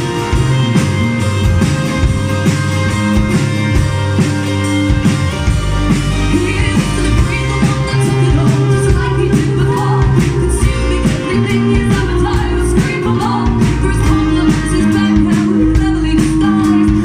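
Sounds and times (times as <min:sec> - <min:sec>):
rock-pop song by a band: 0:00.0 - 0:17.0.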